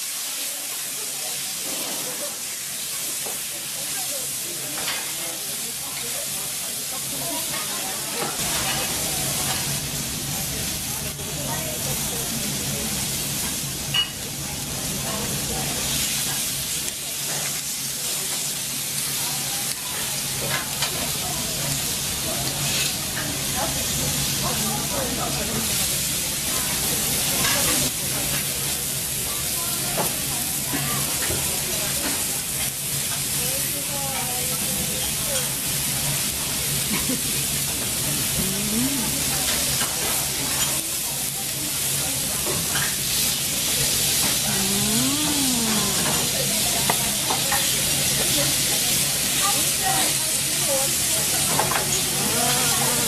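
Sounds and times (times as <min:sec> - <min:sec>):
steaks sizzling on a griddle: 0:00.0 - 0:53.0.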